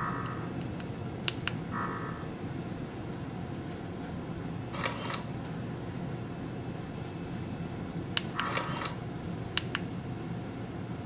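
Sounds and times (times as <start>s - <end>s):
computer fans humming: 0.0s - 11.0s.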